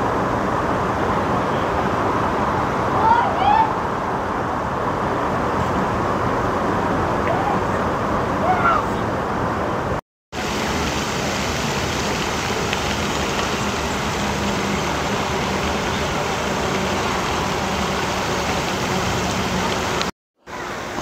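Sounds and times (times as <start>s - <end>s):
steady outdoor roar: 0.0s - 21.0s.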